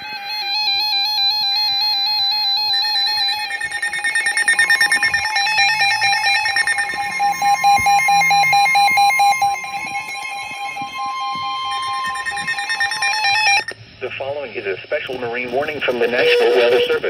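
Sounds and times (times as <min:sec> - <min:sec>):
warbling electronic alarm tones: 0:00.0 - 0:13.8, 0:15.2 - 0:17.0
rapid beeping: 0:00.0 - 0:17.0
steady high tone: 0:00.0 - 0:17.0.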